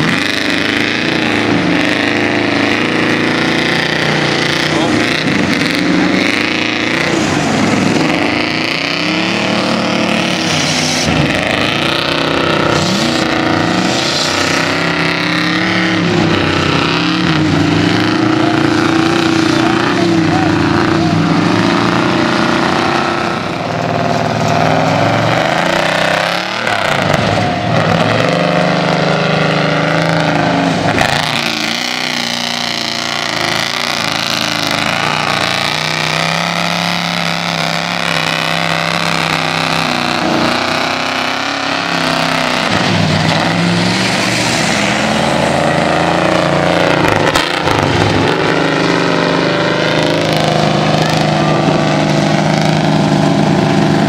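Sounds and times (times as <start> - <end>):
tires churning through mud: 0.0 - 54.0
truck engine revving: 0.0 - 54.0.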